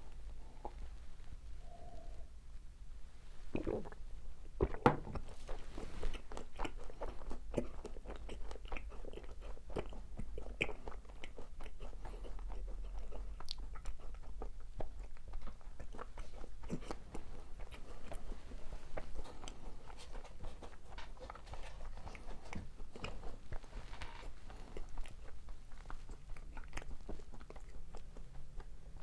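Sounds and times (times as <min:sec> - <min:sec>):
chewing with small crackles: 0:00.0 - 0:02.7, 0:03.3 - 0:29.0.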